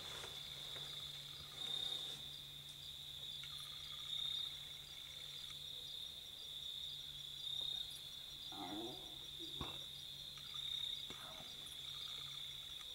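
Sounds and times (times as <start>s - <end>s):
crickets trilling: 0.0s - 12.9s
fast insect chirping: 0.4s - 12.9s.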